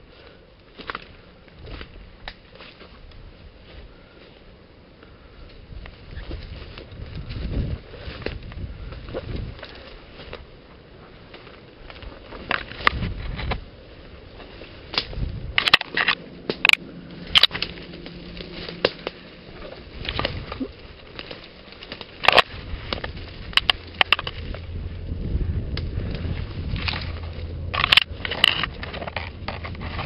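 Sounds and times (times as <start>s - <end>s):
leaves rustling: 0.0s - 30.0s
twigs and branches snapping: 0.6s - 3.2s, 5.4s - 10.5s, 11.2s - 24.8s, 25.7s - 30.0s.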